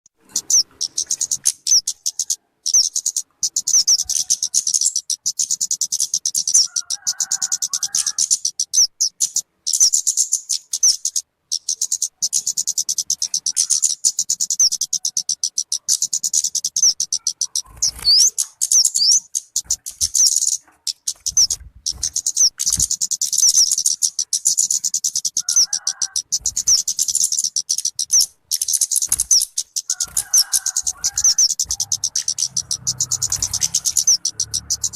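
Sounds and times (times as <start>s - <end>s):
bird chirping trills: 0.1s - 34.9s.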